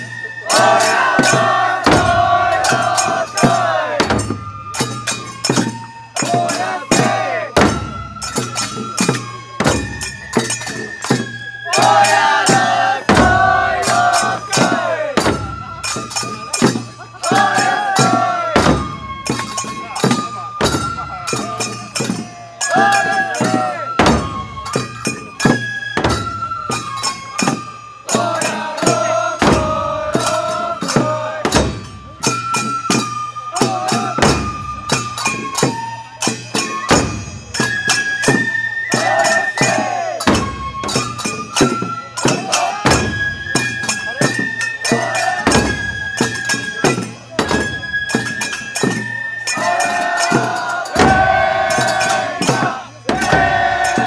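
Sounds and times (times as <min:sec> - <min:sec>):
bamboo flutes playing melody: 0:00.0 - 0:54.0
taiko drum strikes: 0:00.5 - 0:10.8, 0:11.8 - 0:35.8, 0:38.9 - 0:43.3, 0:44.9 - 0:45.9, 0:46.5 - 0:47.8, 0:50.3 - 0:54.0.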